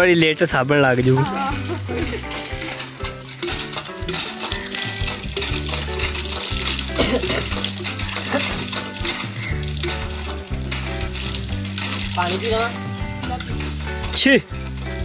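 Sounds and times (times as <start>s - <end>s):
music with held bass notes: 0.0s - 15.0s
water gushing and splashing: 0.0s - 15.0s.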